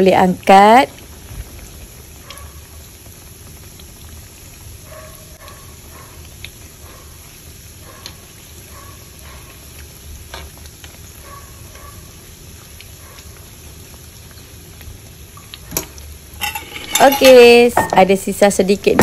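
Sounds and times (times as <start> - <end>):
deep frying sizzle with pops: 0.0 - 19.0.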